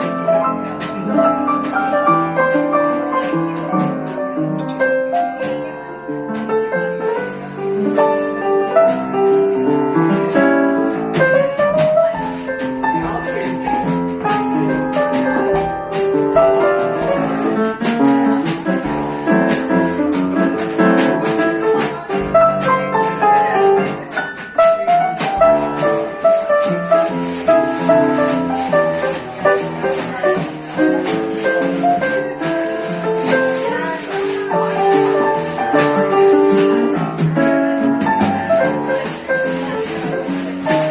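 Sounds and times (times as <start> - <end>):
piano playing chords and melody: 0.0 - 40.9
shaker rhythm: 0.0 - 40.9.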